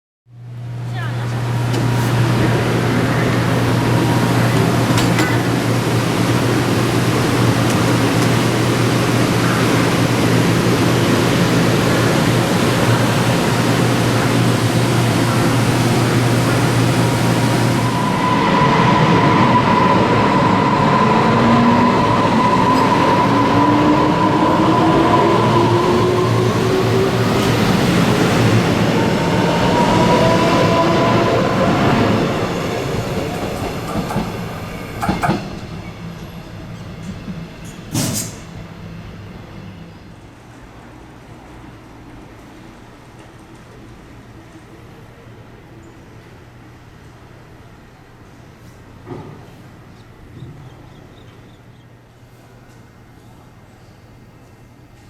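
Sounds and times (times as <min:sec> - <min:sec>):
electric train humming: 0:00.4 - 0:48.6.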